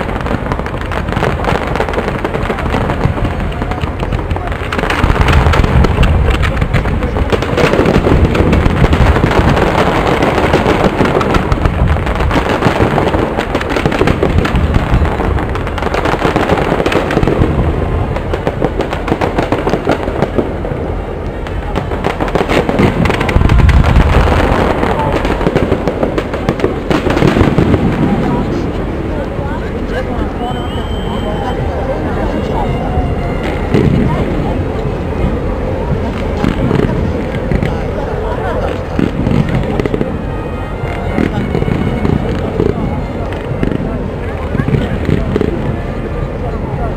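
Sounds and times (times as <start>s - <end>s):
fireworks bangs and crackling: 0.0s - 46.9s
heavy firework booms: 0.0s - 46.9s.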